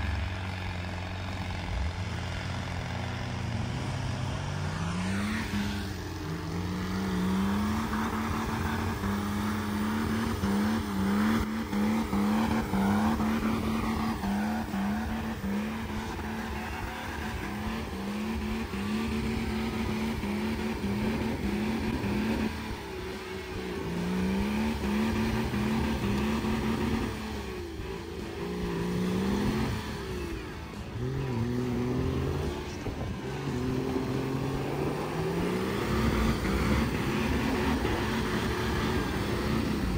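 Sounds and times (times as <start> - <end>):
diesel engine revving hard: 0.0 - 39.9
tyres spinning in snow: 0.0 - 39.9.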